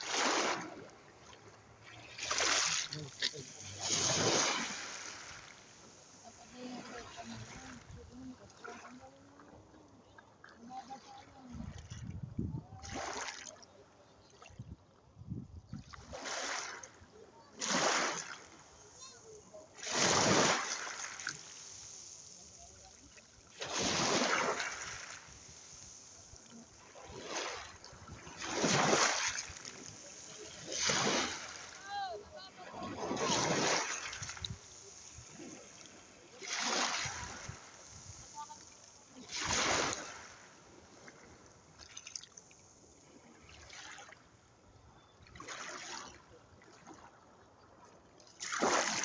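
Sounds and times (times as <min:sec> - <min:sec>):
waves breaking on shore: 0:00.0 - 0:14.6, 0:15.4 - 0:49.0
low wash of water: 0:00.0 - 0:49.0.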